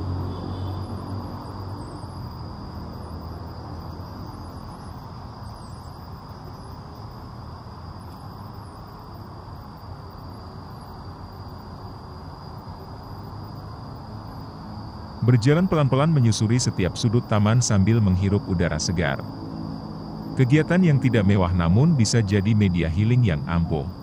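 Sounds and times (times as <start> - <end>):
distant traffic rumble: 0.0 - 24.0
high insect whine: 0.0 - 24.0.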